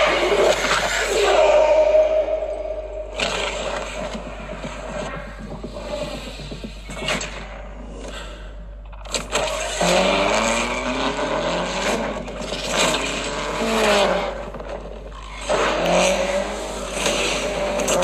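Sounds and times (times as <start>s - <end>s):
car engine revving: 0.0s - 6.5s, 9.1s - 18.0s.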